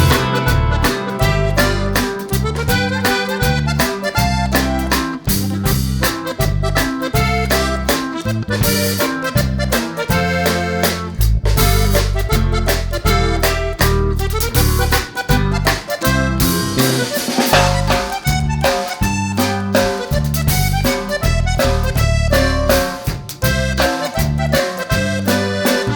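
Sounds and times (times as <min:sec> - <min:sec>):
upbeat music with accordion lead: 0:00.0 - 0:25.9.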